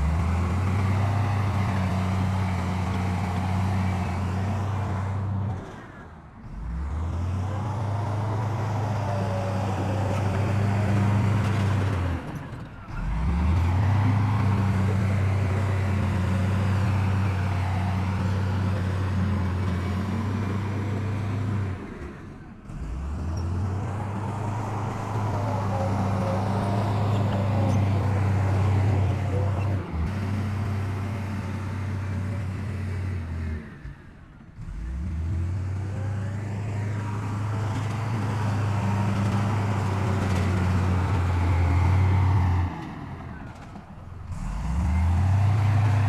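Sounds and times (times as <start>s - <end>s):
heavy diesel engine droning: 0.0s - 46.0s.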